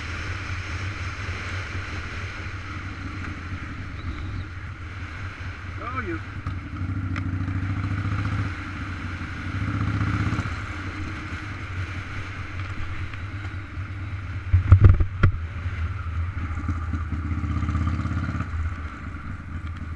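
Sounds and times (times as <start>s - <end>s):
bike road rumble: 0.0s - 19.9s
wind on microphone: 0.0s - 19.9s.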